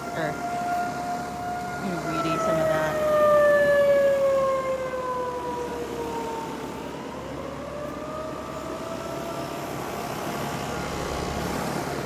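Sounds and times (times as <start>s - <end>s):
tornado siren: 0.0s - 12.0s.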